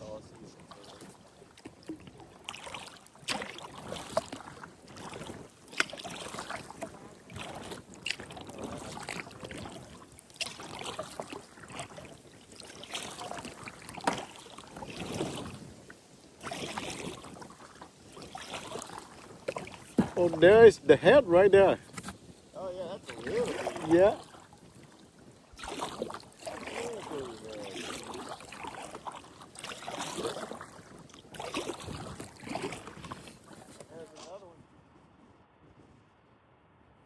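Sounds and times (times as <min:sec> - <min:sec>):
paddle splashing in water: 0:00.0 - 0:34.4.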